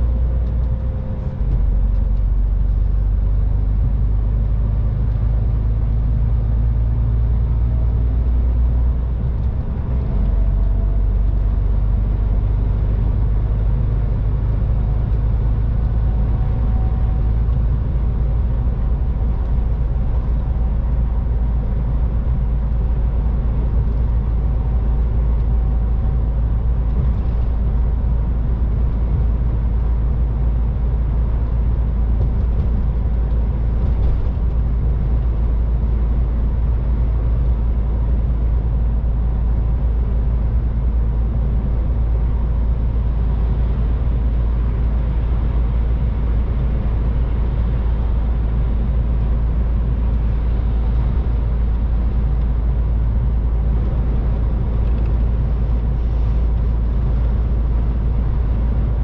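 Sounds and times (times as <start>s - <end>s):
truck diesel engine drone: 0.0s - 59.0s
tyre and road noise: 0.0s - 59.0s.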